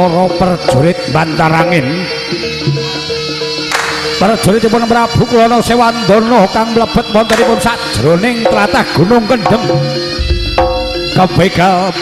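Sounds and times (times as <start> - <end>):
music ensemble: 0.0 - 12.0
reed wind instrument melody: 0.0 - 12.0.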